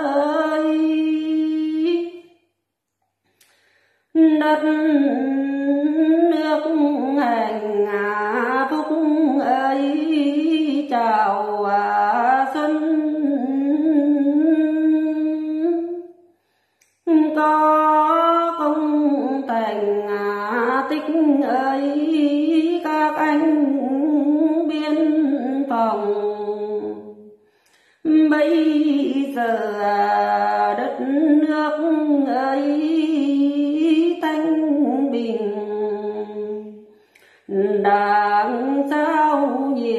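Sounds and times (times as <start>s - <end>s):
woman singing unaccompanied: 0.0s - 2.3s, 4.2s - 16.0s, 17.1s - 27.3s, 28.1s - 36.8s, 37.5s - 39.9s.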